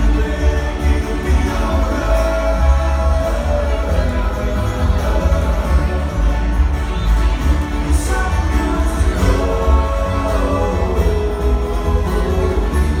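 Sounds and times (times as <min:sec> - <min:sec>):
acoustic guitar: 0:00.0 - 0:13.0
person singing: 0:00.0 - 0:13.0
upright bass: 0:00.0 - 0:13.0.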